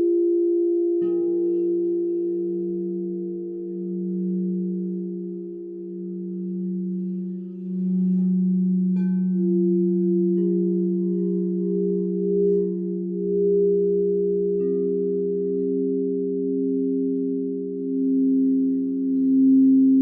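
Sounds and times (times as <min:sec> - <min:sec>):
singing bowls ringing: 0:00.0 - 0:20.0.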